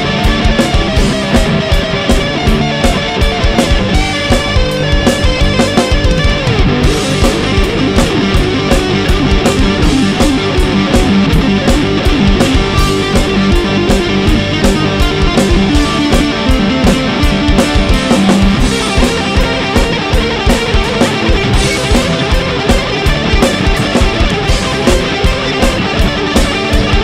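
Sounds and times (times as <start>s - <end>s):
drums keeping a beat: 0.0s - 27.0s
guitar: 0.0s - 27.0s.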